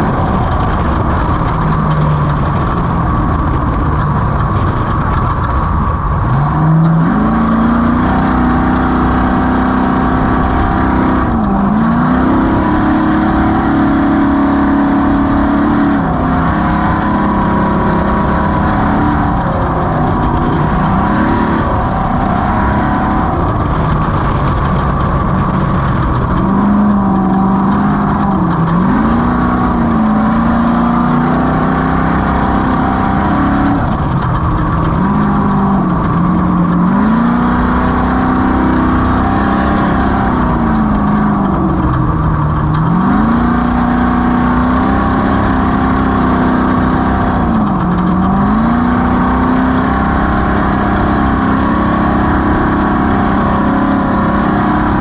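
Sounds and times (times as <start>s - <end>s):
race vehicle engine revving: 0.0s - 55.0s.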